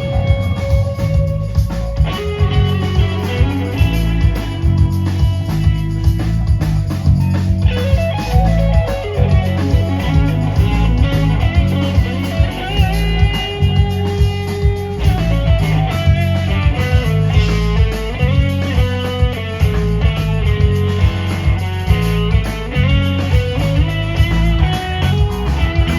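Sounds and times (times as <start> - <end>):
electric guitar lead with bent notes: 0.0 - 25.9
live band playing: 0.0 - 25.9.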